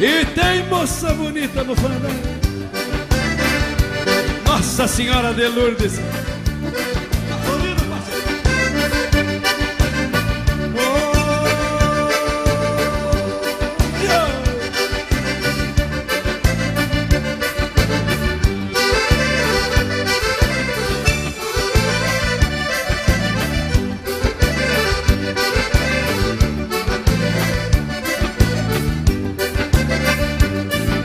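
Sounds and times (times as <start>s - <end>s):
accordion melody: 0.0s - 31.0s
bass: 0.0s - 31.0s.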